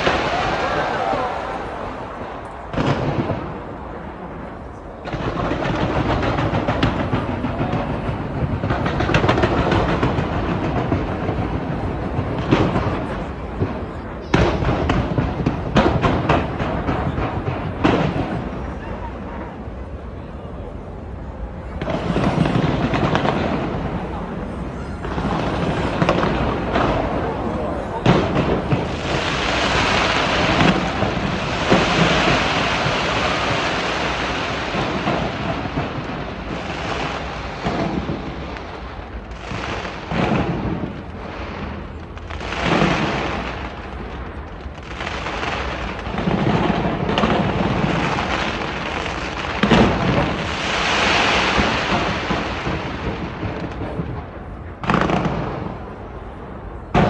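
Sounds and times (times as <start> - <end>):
sharp firework bangs: 0.0 - 4.0, 5.0 - 19.8, 21.7 - 57.0
fireworks crackling and rumbling: 0.0 - 57.0.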